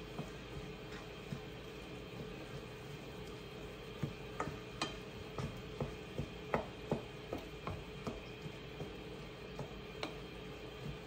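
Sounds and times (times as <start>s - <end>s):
wooden spoon tapping in skillet: 0.0s - 11.0s.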